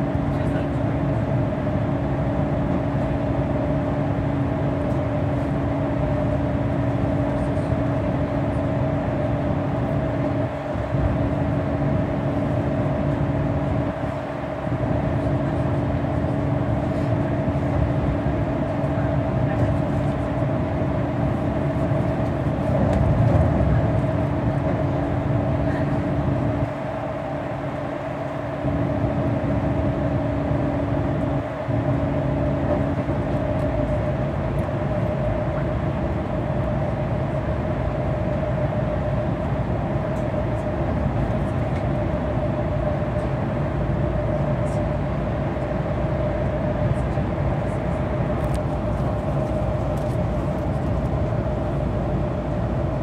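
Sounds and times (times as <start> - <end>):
bus engine drone: 0.0 - 53.0.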